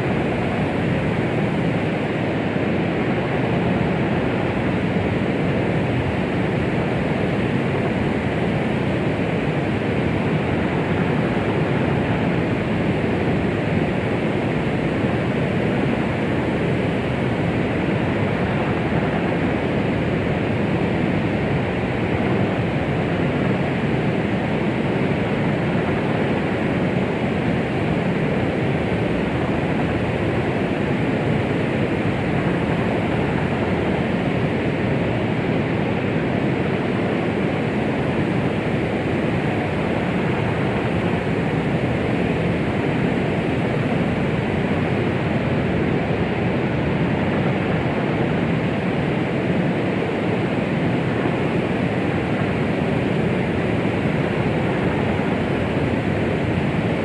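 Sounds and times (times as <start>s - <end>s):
white noise rushing hiss: 0.0s - 57.0s.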